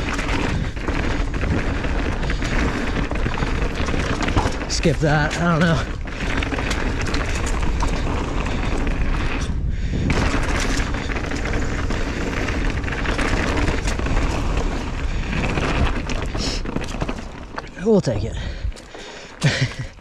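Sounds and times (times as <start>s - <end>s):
wind buffeting microphone: 0.0s - 19.8s
bike rattling over rough ground: 0.0s - 20.0s
tyres rumbling on dirt: 0.0s - 20.0s.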